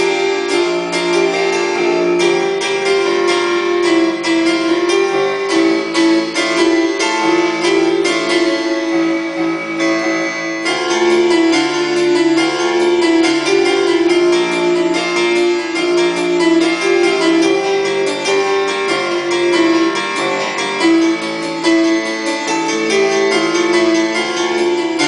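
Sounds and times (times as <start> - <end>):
electronic keyboard playing: 0.0 - 25.0.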